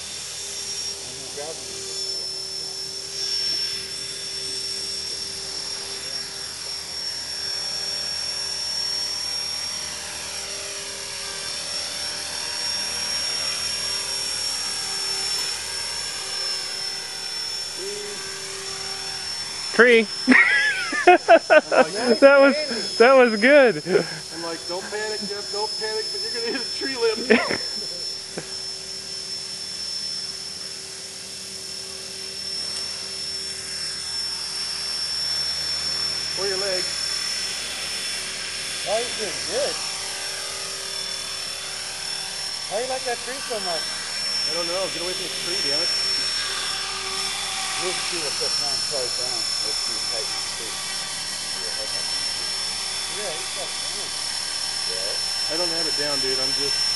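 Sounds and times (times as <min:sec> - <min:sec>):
rc helicopter motor whine: 0:00.0 - 0:56.9
spinning rotor hum: 0:00.0 - 0:56.9.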